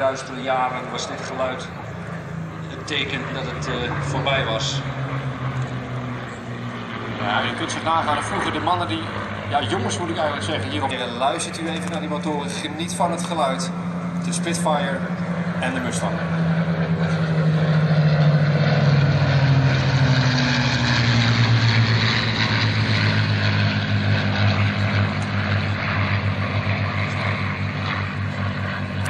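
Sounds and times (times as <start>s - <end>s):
propeller planes droning past: 0.0s - 29.0s.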